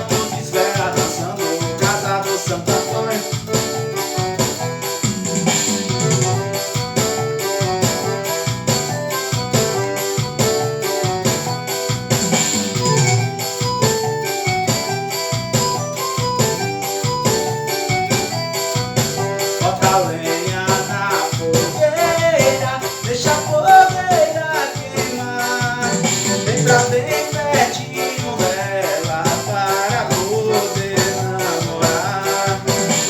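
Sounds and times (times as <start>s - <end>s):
bass line: 0.0s - 33.0s
keyboard melody: 0.0s - 33.0s
steady drum beat: 0.0s - 33.0s.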